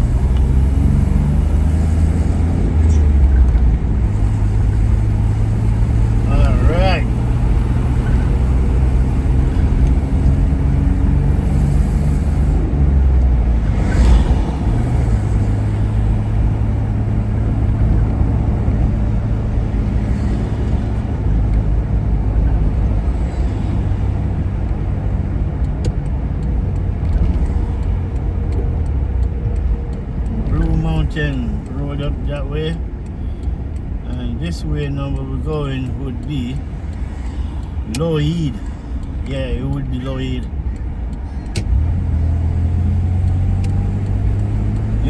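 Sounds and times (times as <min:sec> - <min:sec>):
car engine hum from inside: 0:00.0 - 0:45.0
road noise: 0:00.0 - 0:45.0.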